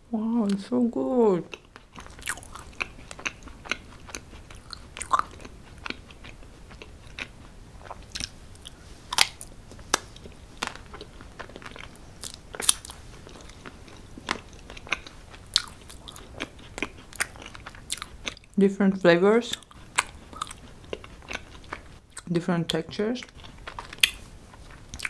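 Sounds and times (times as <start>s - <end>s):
person chewing soft cake: 1.5s - 18.6s, 19.4s - 22.3s, 23.2s - 25.0s.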